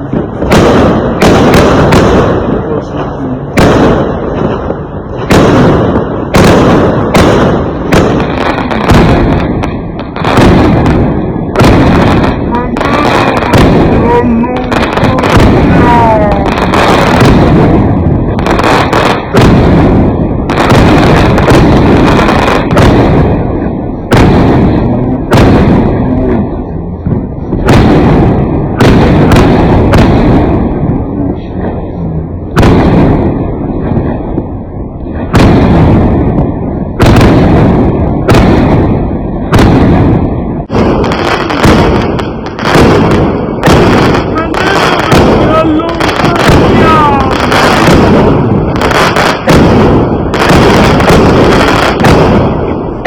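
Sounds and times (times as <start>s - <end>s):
fireworks bangs: 0.0s - 53.0s
fireworks rumble and crackle: 0.0s - 53.0s.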